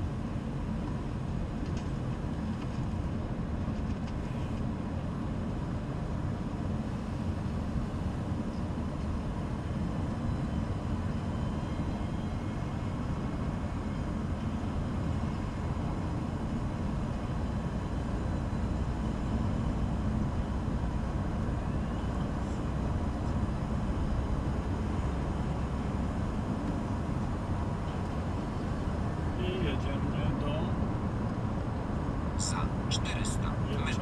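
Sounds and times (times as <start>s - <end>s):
car engine drone: 0.0s - 34.0s.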